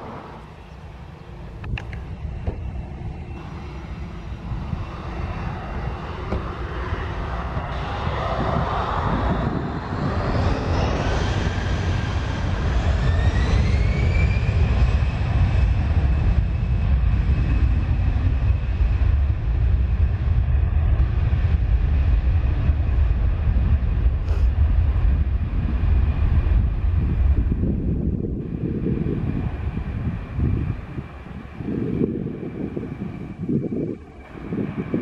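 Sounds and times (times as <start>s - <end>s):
jet engines rumbling and whining: 0.0s - 35.0s.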